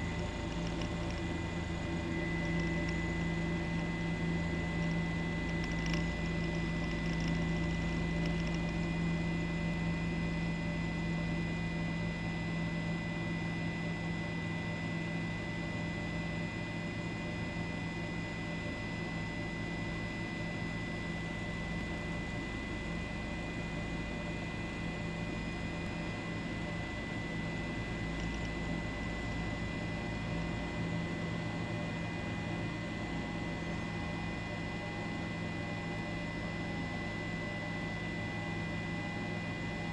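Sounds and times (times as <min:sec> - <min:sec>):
mechanical hum with high whine: 0:00.0 - 0:39.9.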